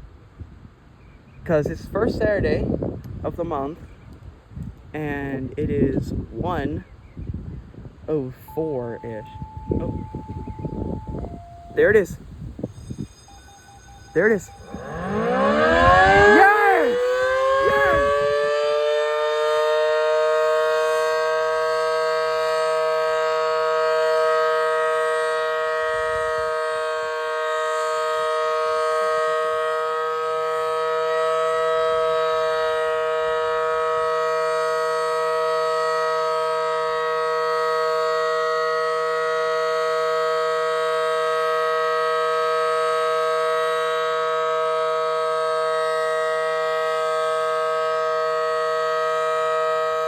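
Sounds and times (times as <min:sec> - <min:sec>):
two-note warning siren: 0:08.4 - 0:50.0.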